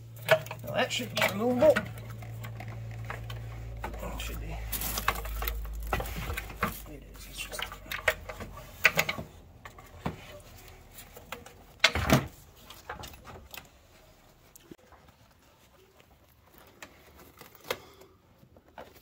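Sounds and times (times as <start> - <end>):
plastic and hoses clicking and knocking: 0.0 - 19.0.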